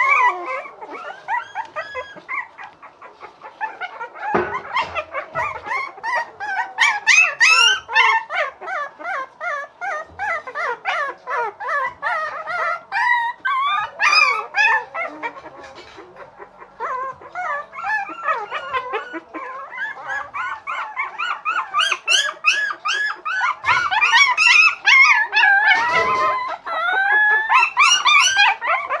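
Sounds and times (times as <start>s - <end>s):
puppies yelping and howling: 0.0s - 29.0s.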